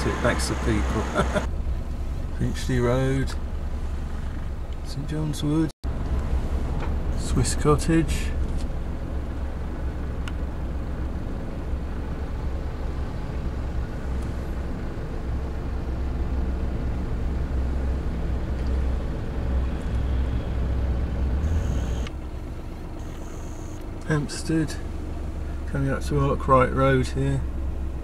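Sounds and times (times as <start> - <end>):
car engine rumble: 0.0 - 28.0
road noise: 0.0 - 28.0.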